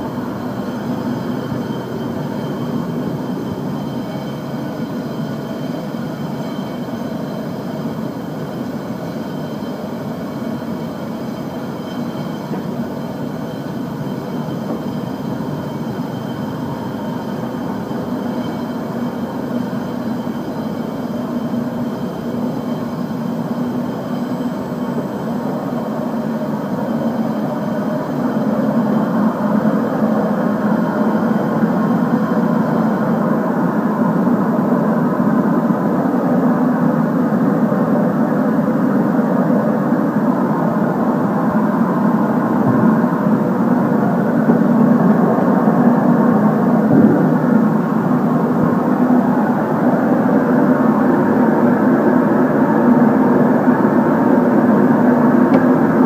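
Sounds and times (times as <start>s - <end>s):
machine hum and whir: 0.0s - 56.0s.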